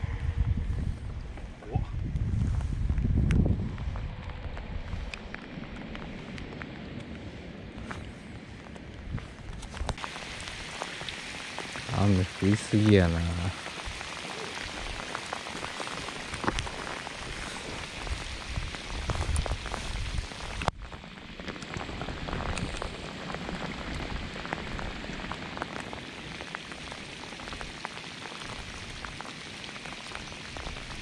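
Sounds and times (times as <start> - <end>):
heavy rain on a lake: 2.9 - 31.0.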